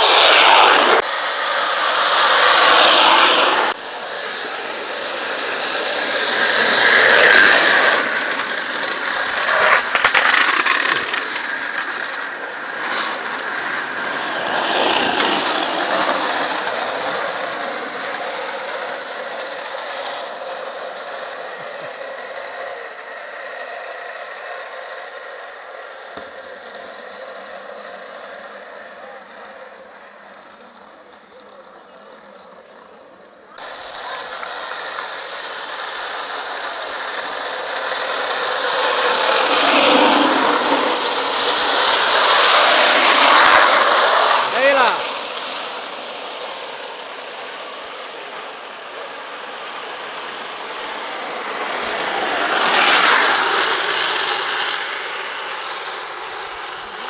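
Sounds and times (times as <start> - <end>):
carts rattling on asphalt: 4.0 - 57.0.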